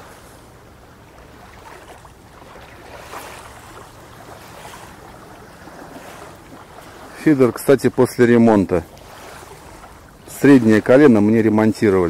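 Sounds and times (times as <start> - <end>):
water at bank: 0.0 - 12.0.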